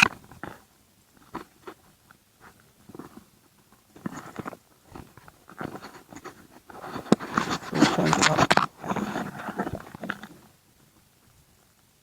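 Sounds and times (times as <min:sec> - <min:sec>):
rustling handling noise: 0:00.0 - 0:11.1.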